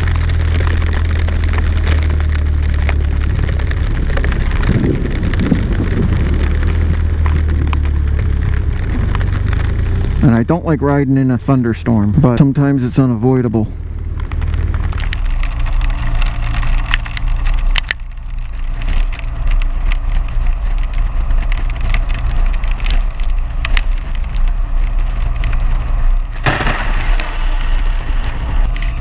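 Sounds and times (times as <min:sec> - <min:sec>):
motorcycle engine: 0:00.0 - 0:29.0
raindrops striking microphone: 0:00.0 - 0:29.0
wind hum: 0:00.0 - 0:29.0.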